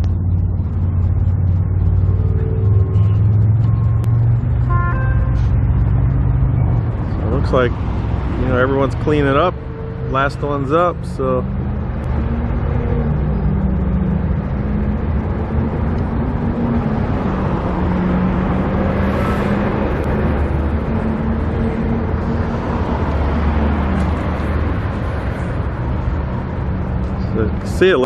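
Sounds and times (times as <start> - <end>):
engine low hum: 0.0 - 28.0
road traffic noise: 0.0 - 28.0
vehicle passing: 0.0 - 28.0.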